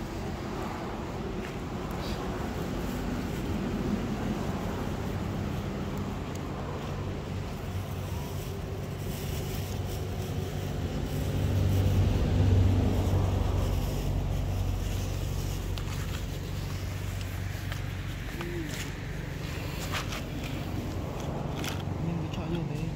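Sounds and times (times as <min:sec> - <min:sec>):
vehicle engine drone: 0:00.0 - 0:22.9.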